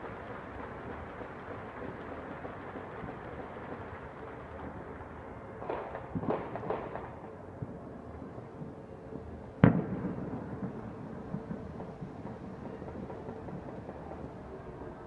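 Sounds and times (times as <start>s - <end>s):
distant fireworks pops: 0.0s - 7.9s, 9.6s - 15.0s
city background hum: 0.0s - 15.0s.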